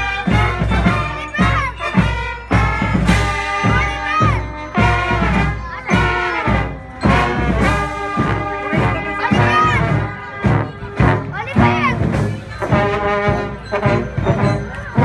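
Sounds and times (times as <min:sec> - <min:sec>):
loud low brass notes: 0:00.0 - 0:15.0
marching brass band playing: 0:00.0 - 0:15.0.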